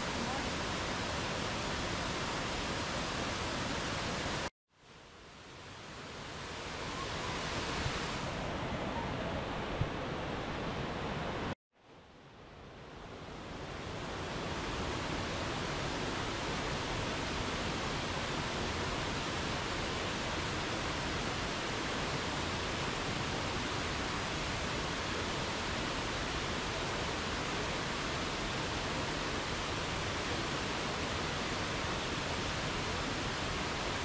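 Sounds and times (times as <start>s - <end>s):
waterfall roaring: 0.0s - 4.5s, 6.0s - 11.5s, 13.4s - 34.0s.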